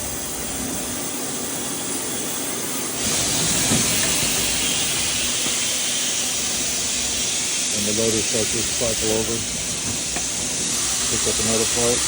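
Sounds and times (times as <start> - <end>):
lathe machine hiss: 0.0 - 12.0.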